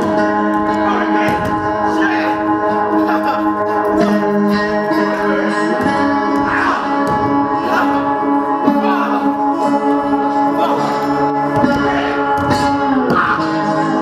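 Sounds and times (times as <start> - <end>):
plucked guitar notes: 0.0 - 14.0.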